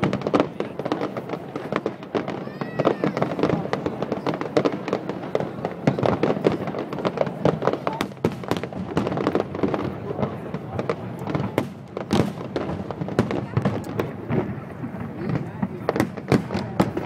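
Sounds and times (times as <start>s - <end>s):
fireworks bangs and pops: 0.0s - 17.0s.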